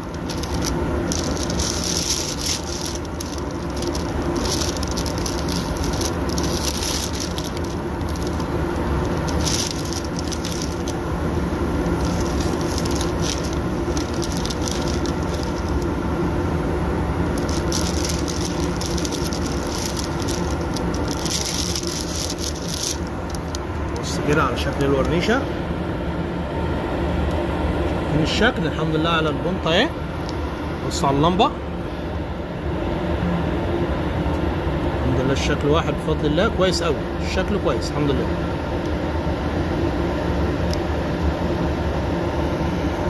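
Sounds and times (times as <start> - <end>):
low machinery hum: 0.0 - 43.0.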